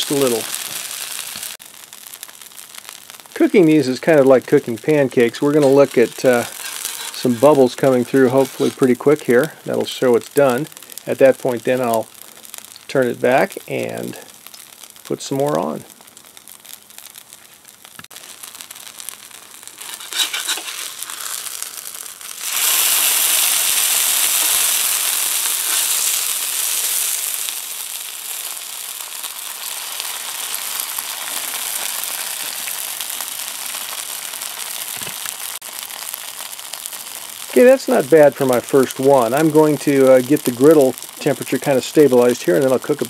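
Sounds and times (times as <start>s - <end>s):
oil sizzling on a griddle: 0.0s - 43.0s.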